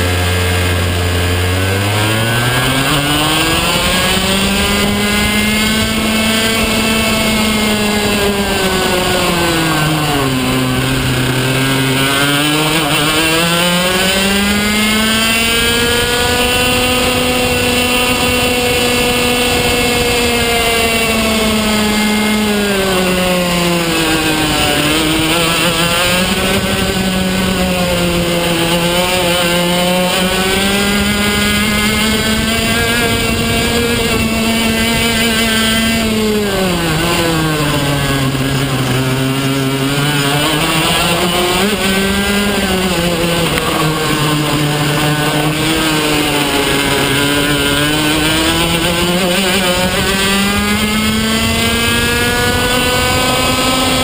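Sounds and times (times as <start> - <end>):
kart engine accelerating and braking: 0.0 - 54.0.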